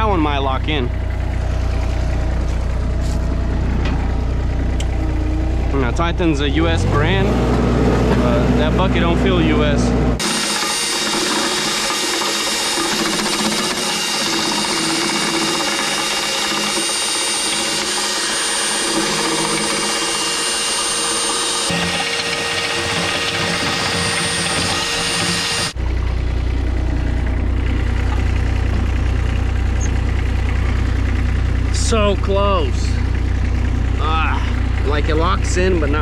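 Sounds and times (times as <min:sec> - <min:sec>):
low engine rumble: 0:00.0 - 0:10.7, 0:12.9 - 0:36.0
loader machine noise with whine: 0:00.0 - 0:36.0.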